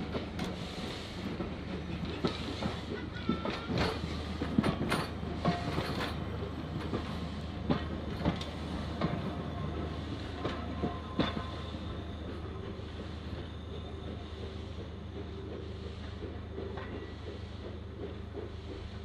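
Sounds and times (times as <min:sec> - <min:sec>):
low rumble of carriages: 0:00.0 - 0:19.0
train wheels clicking over rail joints: 0:00.0 - 0:19.0.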